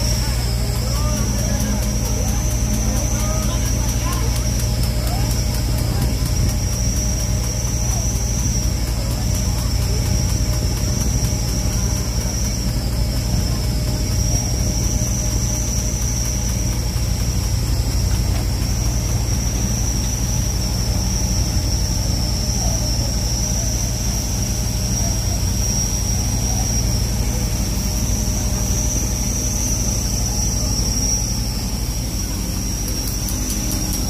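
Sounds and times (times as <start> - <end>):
high-pitched machinery whine: 0.0 - 34.0
low engine drone: 0.0 - 34.0.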